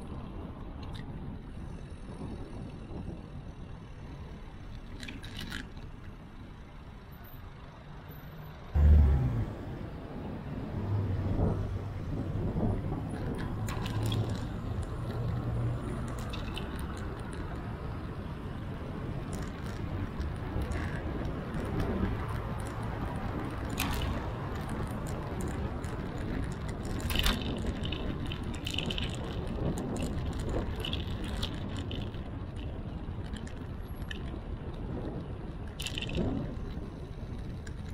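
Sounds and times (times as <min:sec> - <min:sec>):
bike clicks and rattles: 0:00.0 - 0:07.7, 0:12.1 - 0:37.9
wind and road noise: 0:00.0 - 0:37.9.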